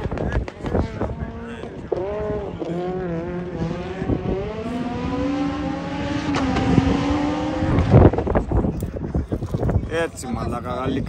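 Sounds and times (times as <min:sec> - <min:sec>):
car passing close rush: 0:00.0 - 0:09.1
race car engine: 0:00.0 - 0:09.8.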